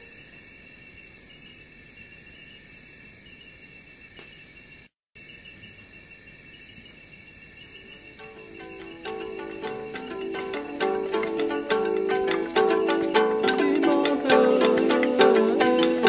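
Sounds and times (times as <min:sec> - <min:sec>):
higher insect chirp: 0:00.0 - 0:16.0
insects trilling: 0:00.0 - 0:16.0.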